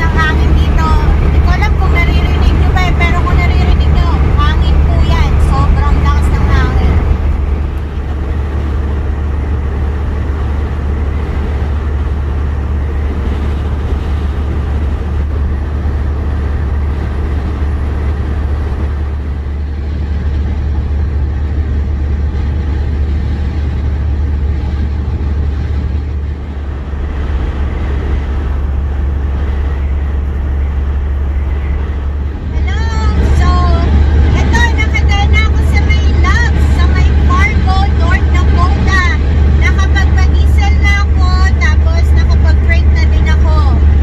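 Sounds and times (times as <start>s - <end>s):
truck engine and road drone: 0.0s - 44.0s.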